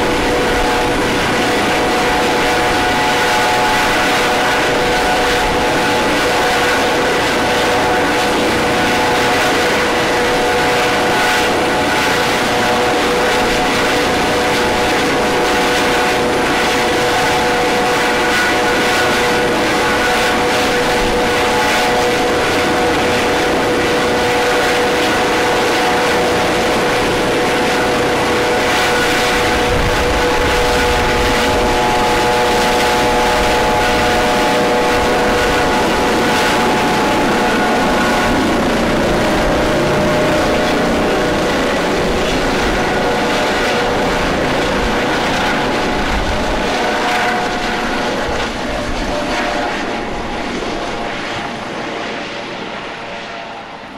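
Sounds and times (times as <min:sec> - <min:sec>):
helicopter turbine whine: 0:00.0 - 0:53.9.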